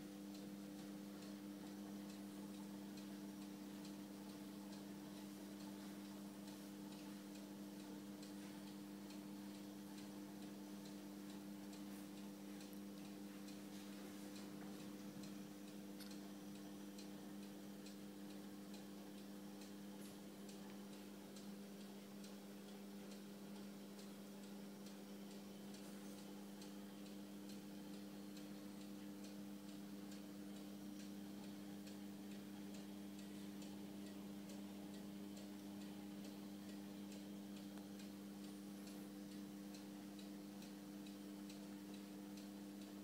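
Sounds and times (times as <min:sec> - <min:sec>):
aquarium pumps humming: 0:00.0 - 0:43.0
faint irregular ticking: 0:00.0 - 0:43.0.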